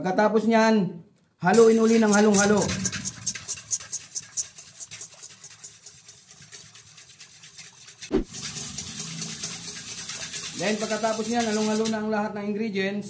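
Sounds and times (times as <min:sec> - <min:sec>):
whisk scraping metal bowl: 0:01.5 - 0:12.1.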